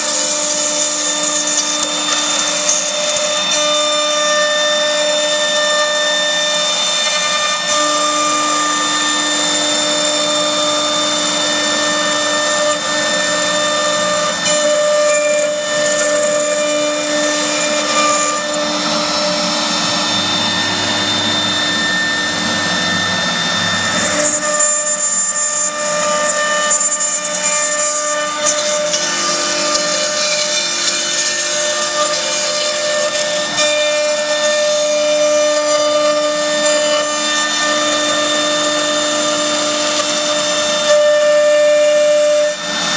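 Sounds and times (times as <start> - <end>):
cnc router spindle whine: 0.0 - 42.9
router bit cutting workpiece: 0.0 - 42.9.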